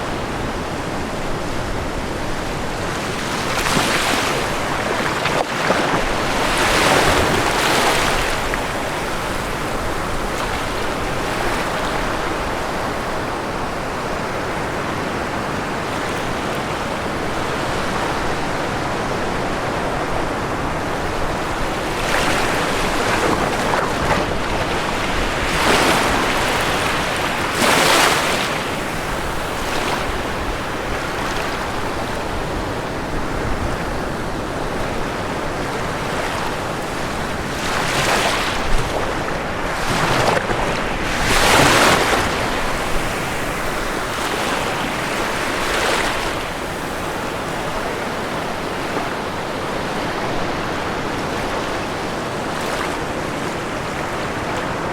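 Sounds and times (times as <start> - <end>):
loud waves breaking: 0.0 - 54.9
ocean surf: 0.0 - 54.9.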